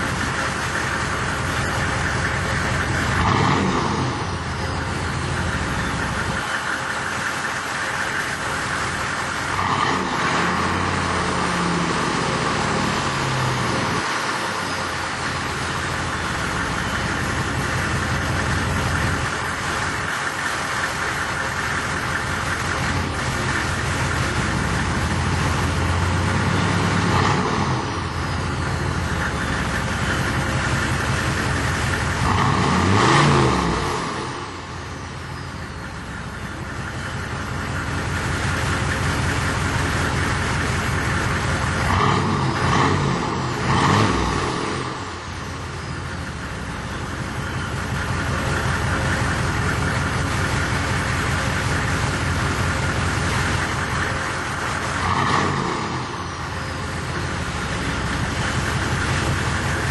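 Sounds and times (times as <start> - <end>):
diesel engine idling and revving: 0.0 - 59.9.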